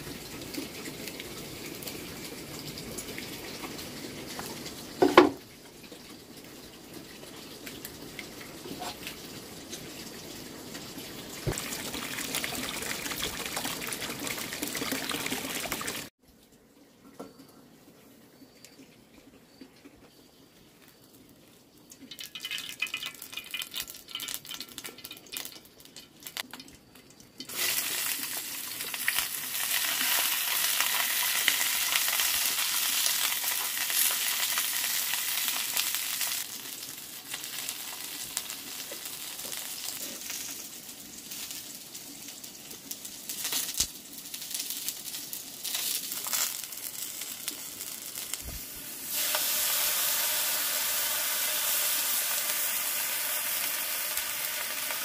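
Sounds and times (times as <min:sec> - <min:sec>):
food sizzling in hot oil: 0:00.0 - 0:16.1, 0:22.0 - 0:26.6, 0:27.4 - 0:55.0.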